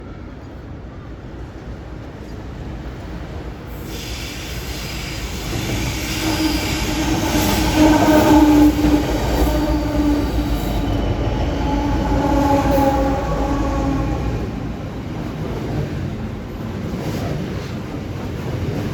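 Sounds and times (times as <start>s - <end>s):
diesel locomotives passing: 0.0s - 18.9s.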